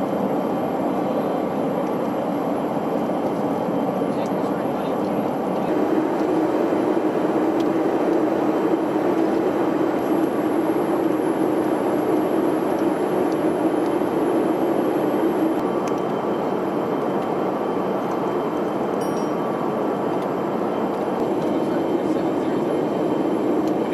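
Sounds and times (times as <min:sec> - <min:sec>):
jet engine cabin drone: 0:00.0 - 0:23.9.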